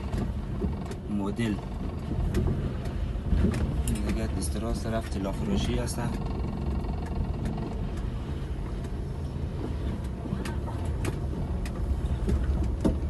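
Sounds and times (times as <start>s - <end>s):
engine and tyres rumbling: 0.0s - 13.0s
small knocks and rattles: 0.0s - 13.0s.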